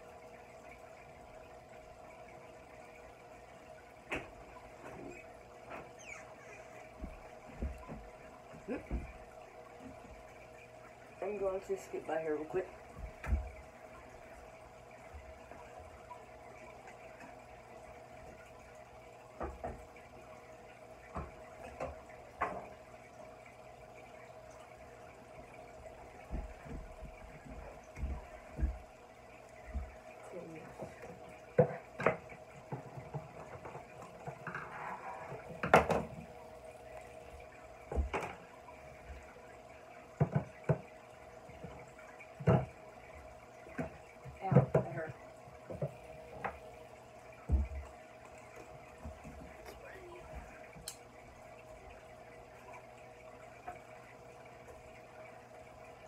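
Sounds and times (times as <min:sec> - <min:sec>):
aquarium filter trickling water: 0:00.0 - 0:56.0
filter hum: 0:00.0 - 0:56.0.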